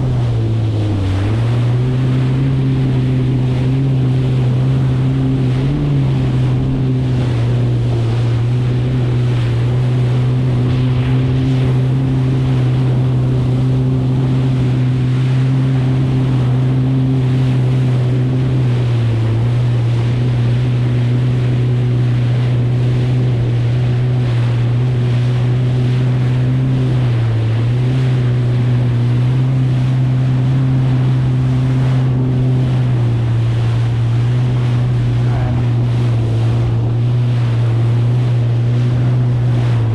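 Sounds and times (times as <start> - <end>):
jet ski engine running: 0.0 - 39.9
water rushing and splashing: 0.0 - 39.9
wind on microphone: 0.0 - 39.9.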